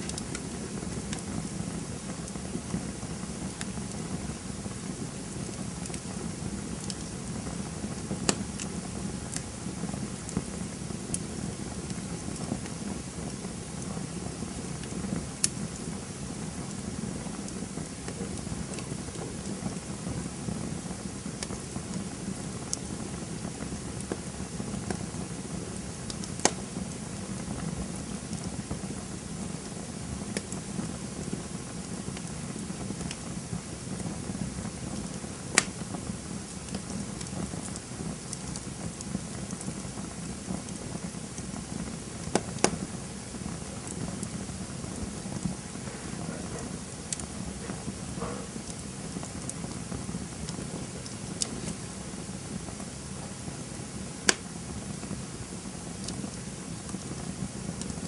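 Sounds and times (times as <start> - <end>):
campfire crackling: 0.0 - 58.0
sharp pops of burning wood: 0.0 - 58.0.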